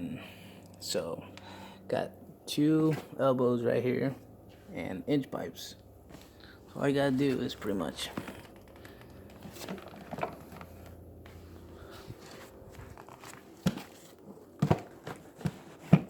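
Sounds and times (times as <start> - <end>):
handling rustling and fumbling: 2.7 - 16.0.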